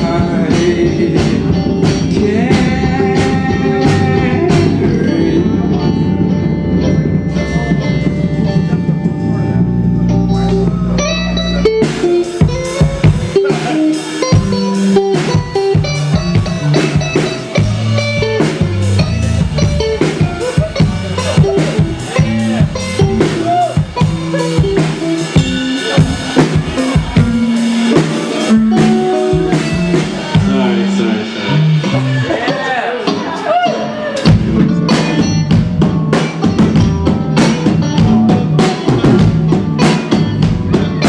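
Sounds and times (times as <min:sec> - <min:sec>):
drum rimshots: 0:00.0 - 0:33.3, 0:34.2 - 0:41.0
rock band playing: 0:00.0 - 0:41.0.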